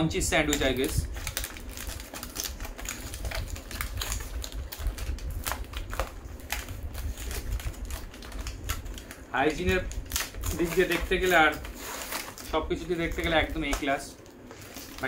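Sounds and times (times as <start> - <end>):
aluminium foil crinkling: 0.3 - 15.0.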